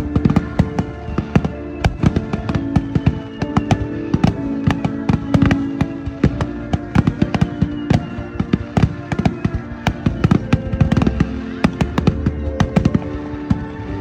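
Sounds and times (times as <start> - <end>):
background music: 0.0 - 14.0
fireworks bangs and crackling: 0.0 - 14.0.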